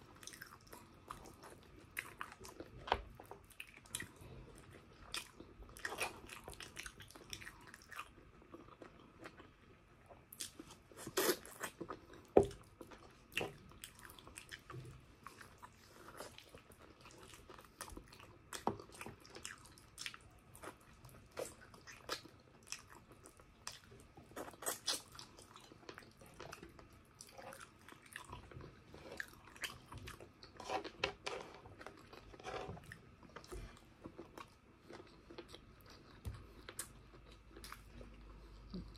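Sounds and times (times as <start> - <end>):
person chewing close-up: 0.0 - 38.9.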